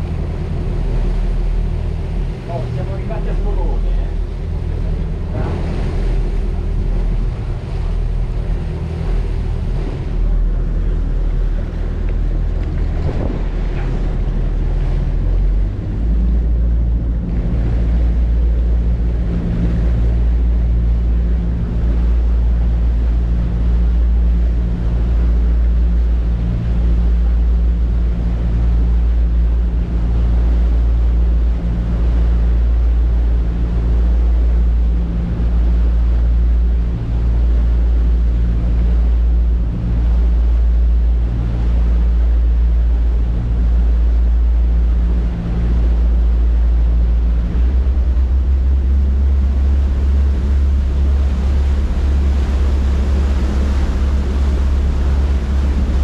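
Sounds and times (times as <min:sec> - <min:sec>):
boat diesel engines droning: 0:00.0 - 0:56.0
rush of wake water: 0:00.0 - 0:56.0
wind on microphone: 0:00.0 - 0:56.0.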